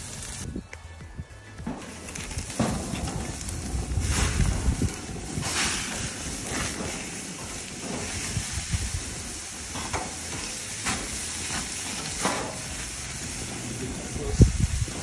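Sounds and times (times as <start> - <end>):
steaks sizzling on a grill: 0.0 - 0.5, 1.9 - 15.0.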